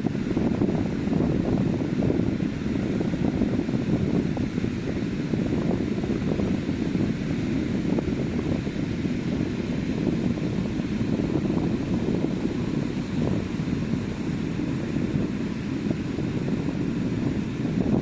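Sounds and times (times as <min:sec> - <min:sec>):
ocean surf on a beach: 0:00.0 - 0:18.0
wind buffeting microphone: 0:00.0 - 0:18.0.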